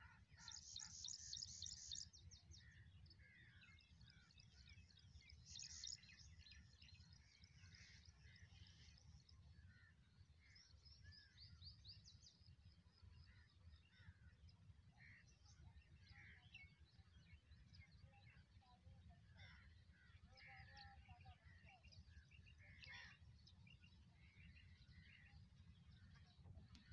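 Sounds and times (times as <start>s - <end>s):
faint birds chirping: 0.0s - 26.9s.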